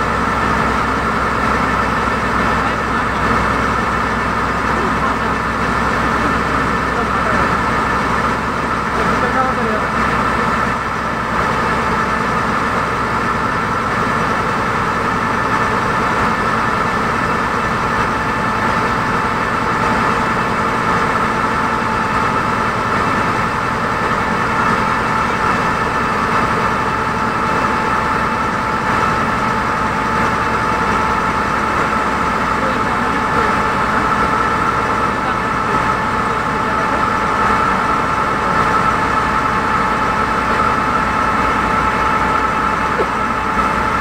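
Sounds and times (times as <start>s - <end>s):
boat engine droning: 0.0s - 44.0s.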